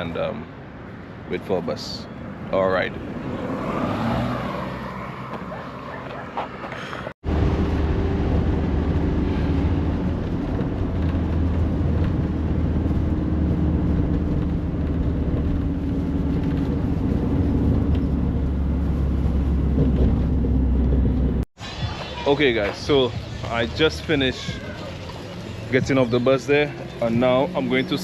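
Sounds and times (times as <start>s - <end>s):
road noise: 0.0s - 28.0s
bus engine droning: 2.6s - 28.0s.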